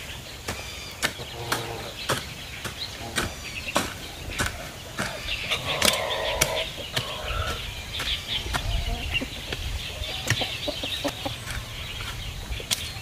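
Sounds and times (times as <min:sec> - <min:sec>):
chickens clucking: 0:00.0 - 0:13.0
hoe chopping soil: 0:00.0 - 0:13.0
small birds chirping: 0:00.0 - 0:13.0.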